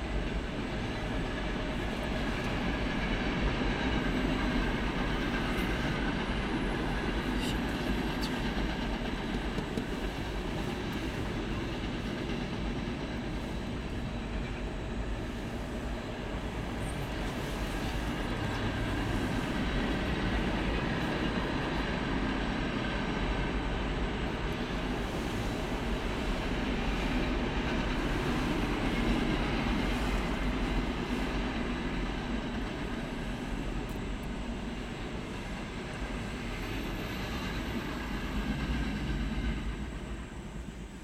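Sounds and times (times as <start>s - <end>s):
freight train wheels on rails: 0.0s - 41.0s.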